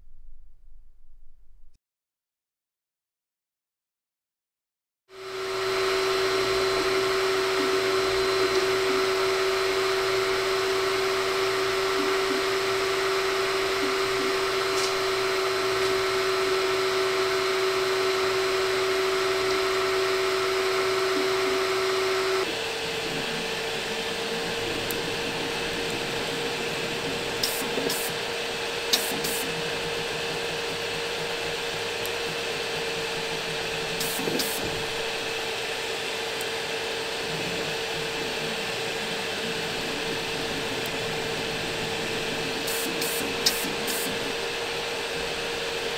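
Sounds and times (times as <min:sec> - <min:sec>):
three d printer whirring and whining: 0:05.1 - 0:45.9.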